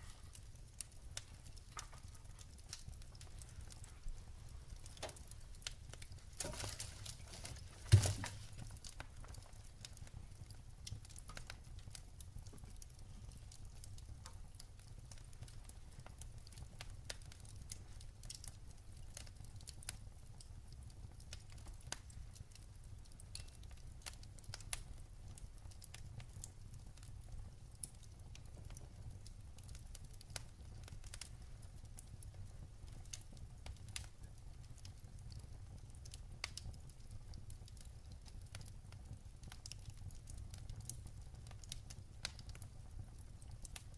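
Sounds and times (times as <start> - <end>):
fire crackling and popping: 0.0 - 43.9
low rumble of fire: 0.0 - 43.9.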